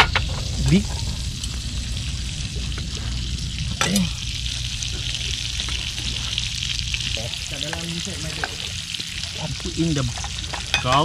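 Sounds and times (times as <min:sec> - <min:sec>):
butter sizzling in a frying pan: 0:00.0 - 0:11.0.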